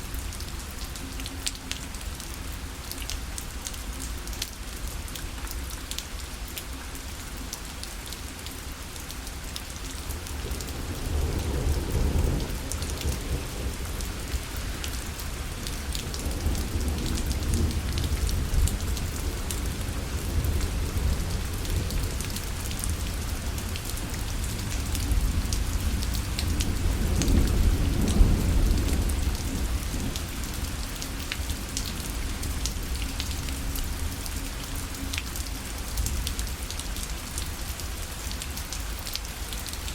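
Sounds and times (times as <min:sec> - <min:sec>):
rain on fabric parasol: 0:00.0 - 0:39.9.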